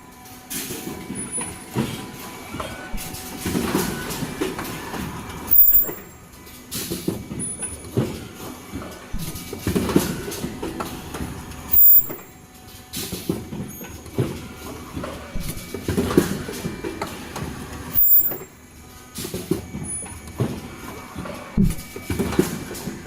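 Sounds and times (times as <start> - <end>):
machine knocking and hissing: 0.0 - 23.0.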